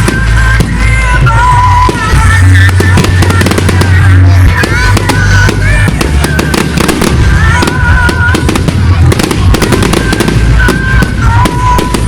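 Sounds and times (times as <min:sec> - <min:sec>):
fireworks bangs and crackles: 0:00.0 - 0:12.0
loud music with steady bass: 0:00.0 - 0:12.0.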